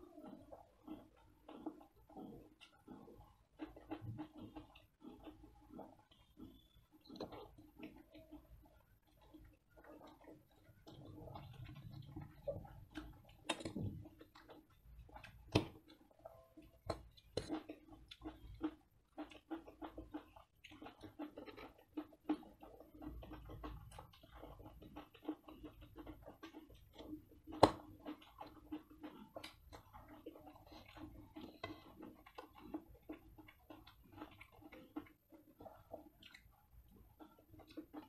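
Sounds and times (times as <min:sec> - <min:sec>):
chewing and slurping: 0:00.0 - 0:38.0.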